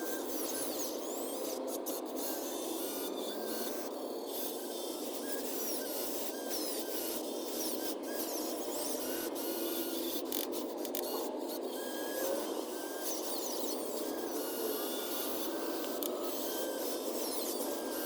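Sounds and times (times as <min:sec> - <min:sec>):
small electric motors whirring: 0:00.0 - 0:18.0.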